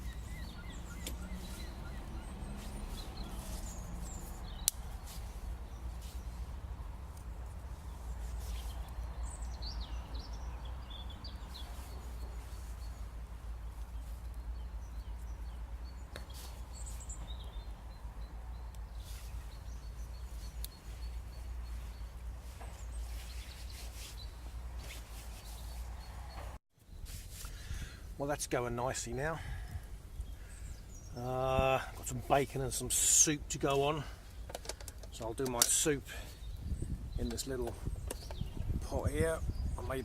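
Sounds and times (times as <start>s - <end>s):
campfire crackling: 0.0s - 25.0s, 29.7s - 38.2s
birds chirping: 0.0s - 40.0s.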